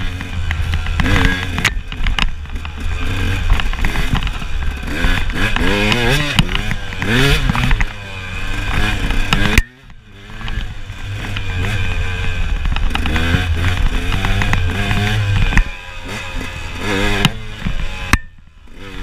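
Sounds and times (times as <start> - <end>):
knocks and rattles from bike: 0.0 - 19.0
motorcycle engine revving: 0.0 - 19.0.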